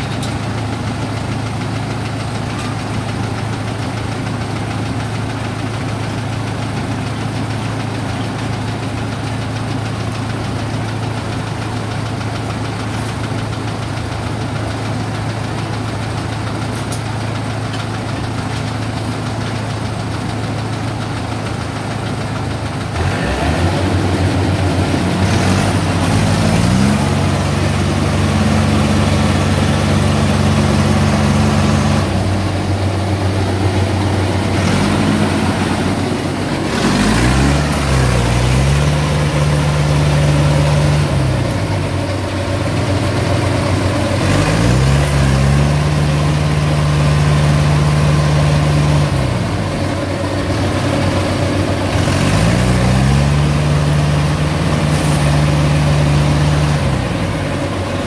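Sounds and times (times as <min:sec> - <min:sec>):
diesel engines straining: 0:00.0 - 0:58.0.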